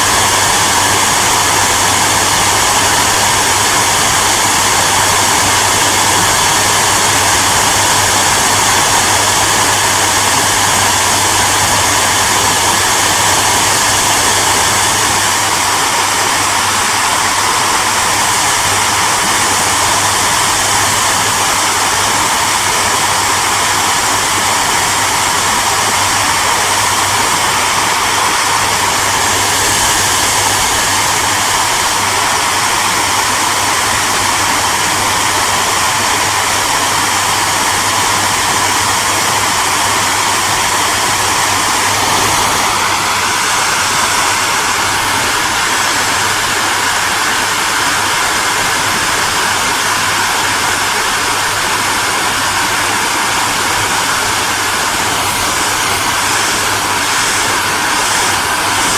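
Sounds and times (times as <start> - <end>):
hair dryer blowing: 0.0 - 58.9.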